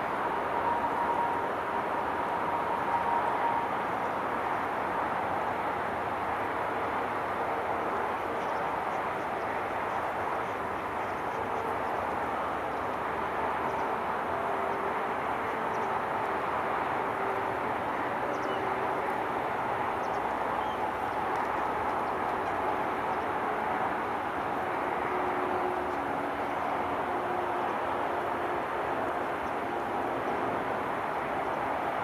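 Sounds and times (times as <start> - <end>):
distant road traffic hum: 0.0 - 32.0.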